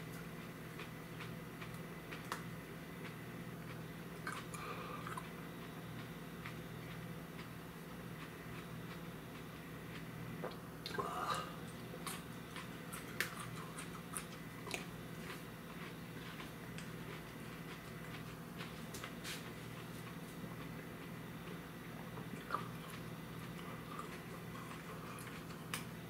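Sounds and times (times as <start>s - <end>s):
man chewing crunchy food: 0.0s - 26.0s.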